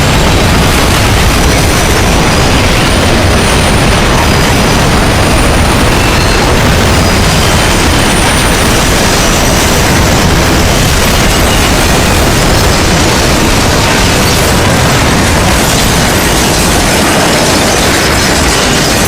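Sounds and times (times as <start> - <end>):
steady roar of train crash: 0.0 - 19.0.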